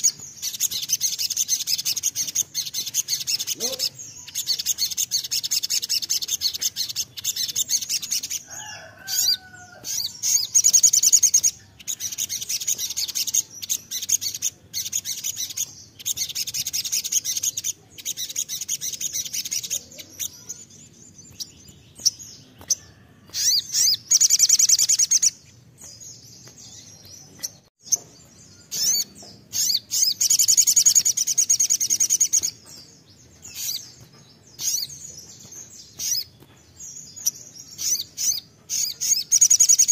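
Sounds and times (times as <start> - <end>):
sunbird high-pitched trilling song: 0.0 - 39.9.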